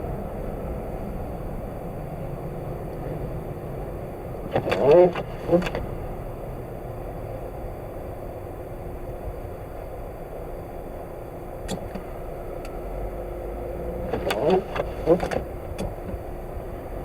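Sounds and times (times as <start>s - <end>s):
road and engine noise in car: 0.0s - 17.0s.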